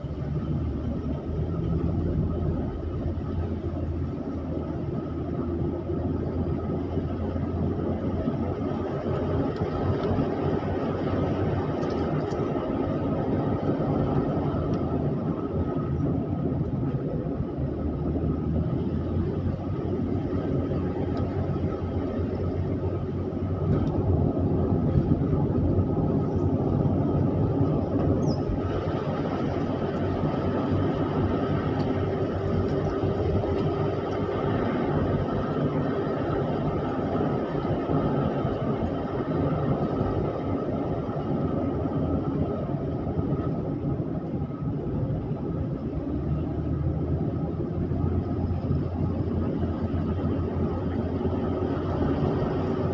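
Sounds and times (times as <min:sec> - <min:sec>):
car engine and tyre noise: 0:00.0 - 0:52.9.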